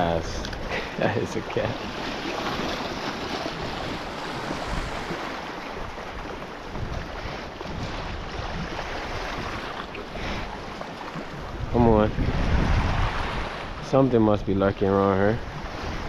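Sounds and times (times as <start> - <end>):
sea waves against shore: 0.0 - 16.0
wind buffeting microphone: 0.0 - 16.0.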